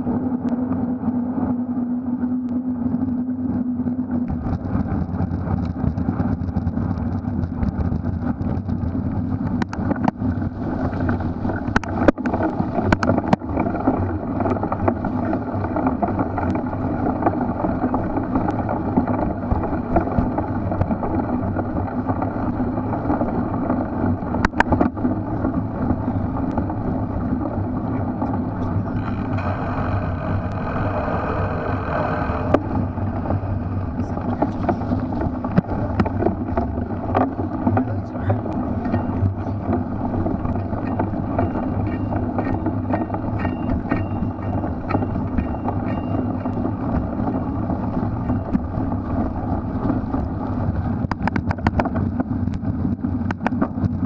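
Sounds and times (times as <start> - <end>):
wind and tyres rumbling: 0.0 - 54.0.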